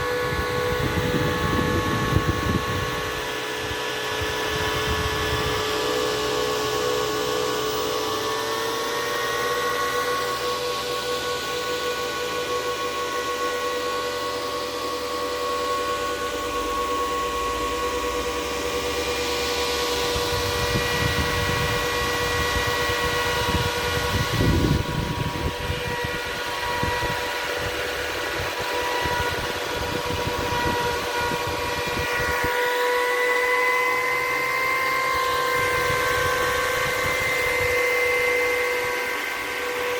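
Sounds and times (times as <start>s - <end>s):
cooling fans whining: 0.0s - 39.9s.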